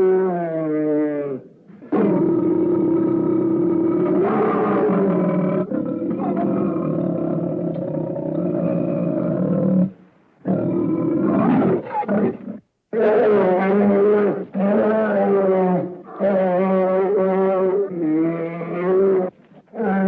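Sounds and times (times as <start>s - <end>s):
big cat roaring: 0.0s - 20.0s.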